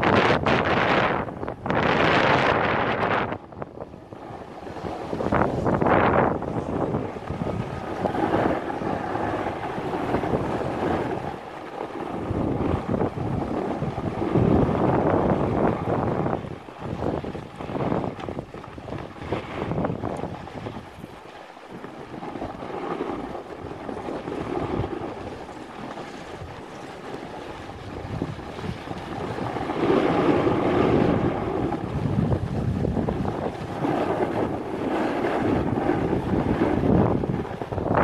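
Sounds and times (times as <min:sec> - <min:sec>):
wind buffeting microphone: 0:00.0 - 0:38.0
snowboard scraping across snow: 0:04.1 - 0:38.0.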